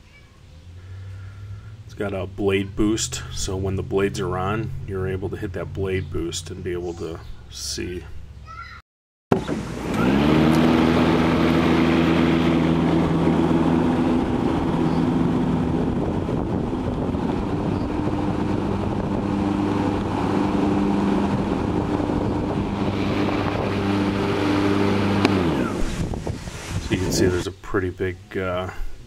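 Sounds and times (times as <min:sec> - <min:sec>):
mower blades whining: 0:00.7 - 0:08.4, 0:09.3 - 0:27.5.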